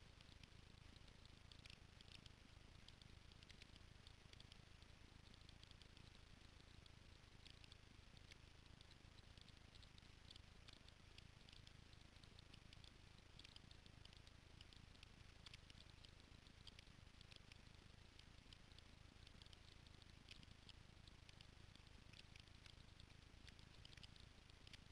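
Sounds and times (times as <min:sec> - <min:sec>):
faint irregular clicks: 0:00.0 - 0:24.9
low steady hum: 0:00.0 - 0:24.9.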